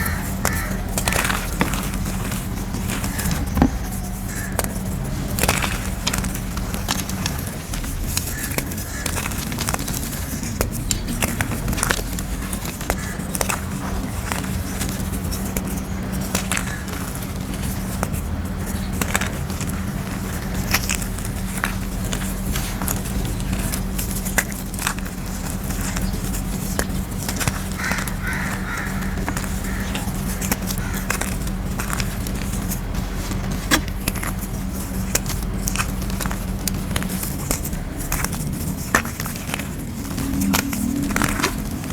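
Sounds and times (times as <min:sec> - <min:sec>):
chalk pieces crunching: 0:00.0 - 0:41.9
steady low hum: 0:00.0 - 0:41.9.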